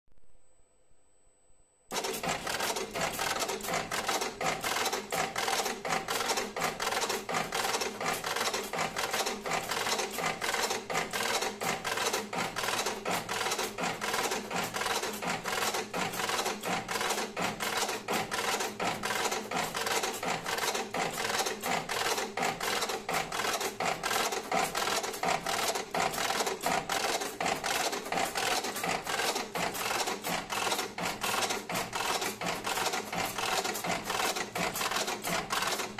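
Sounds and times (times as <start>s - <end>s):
machine clacking rapidly: 1.9s - 35.9s.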